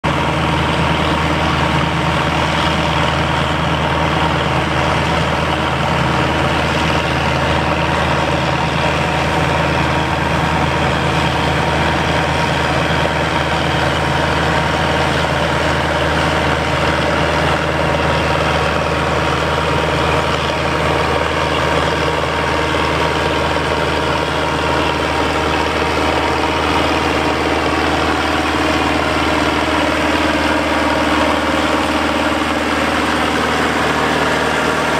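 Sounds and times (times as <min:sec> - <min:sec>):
tractor engine under load: 0:00.0 - 0:34.9
combine threshing machinery: 0:00.1 - 0:34.9.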